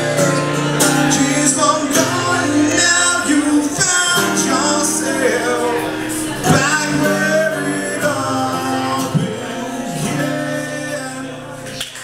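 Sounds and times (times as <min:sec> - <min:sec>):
man singing: 0:00.0 - 0:12.0
strummed acoustic guitar: 0:00.0 - 0:12.0.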